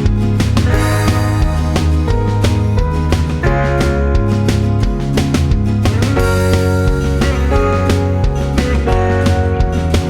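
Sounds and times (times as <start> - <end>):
guitar-led instrumental music: 0.0 - 10.0.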